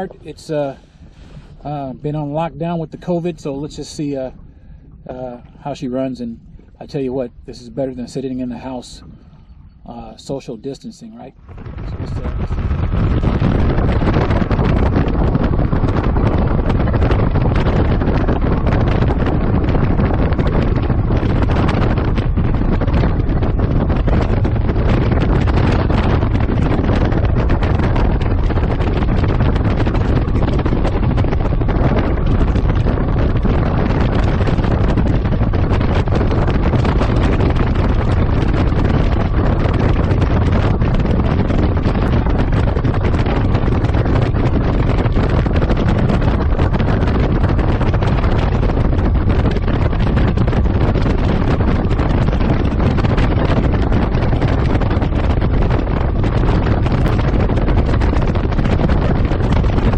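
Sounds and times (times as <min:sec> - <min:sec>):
outboard motor running: 0:00.0 - 0:59.9
water rushing along hull: 0:00.0 - 0:59.9
wind buffeting microphone: 0:00.0 - 0:59.9.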